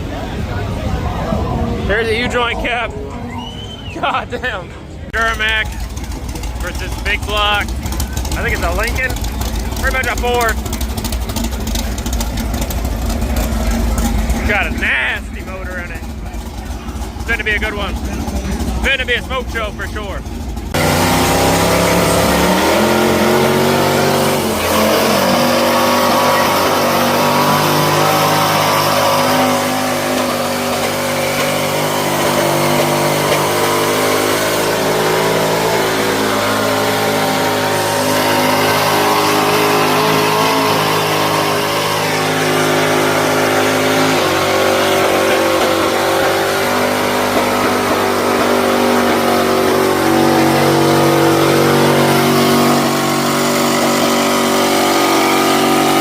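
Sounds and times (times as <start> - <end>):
truck engines revving high: 0.0 - 56.0.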